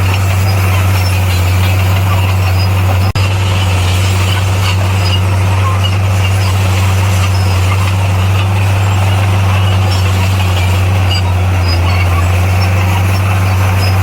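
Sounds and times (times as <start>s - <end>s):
bulldozer diesel engine droning: 0.0s - 14.0s.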